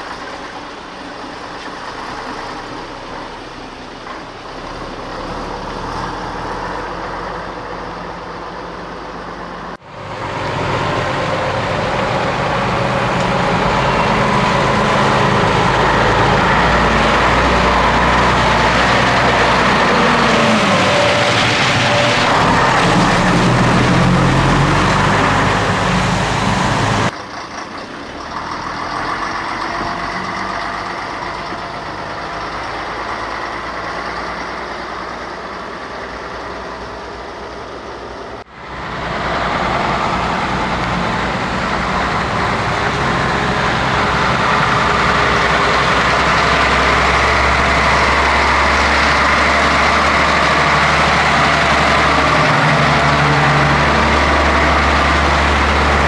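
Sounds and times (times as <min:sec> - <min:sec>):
truck diesel engines running: 0:00.0 - 0:56.0.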